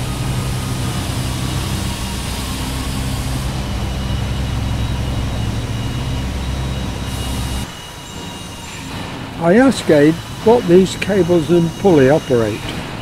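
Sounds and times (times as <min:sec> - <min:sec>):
machine drone: 0:00.0 - 0:13.0.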